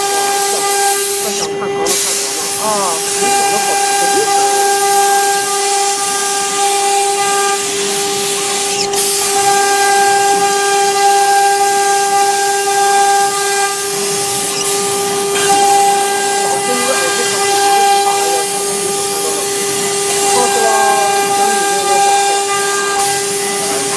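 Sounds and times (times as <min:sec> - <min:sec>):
router spindle high-pitched whine: 0:00.0 - 0:23.9.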